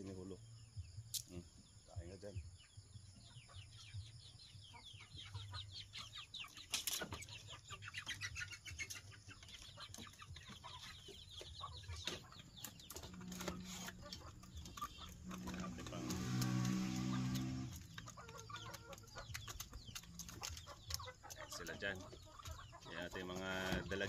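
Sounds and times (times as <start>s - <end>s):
chickens clucking: 1.6s - 24.0s.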